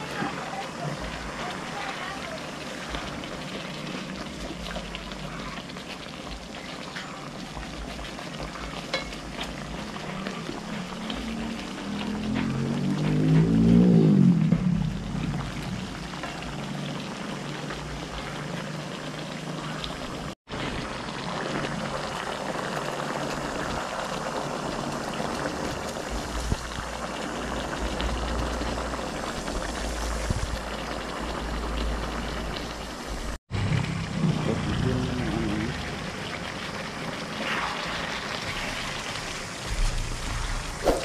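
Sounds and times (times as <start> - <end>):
food bubbling in a pan: 0.0 - 41.0.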